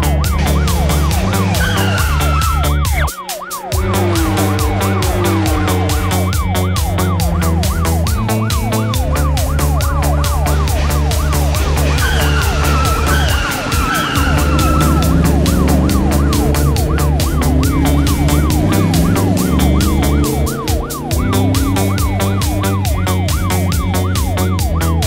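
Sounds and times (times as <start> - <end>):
background music with steady beat: 0.0 - 25.0
police siren yelping: 0.0 - 25.0.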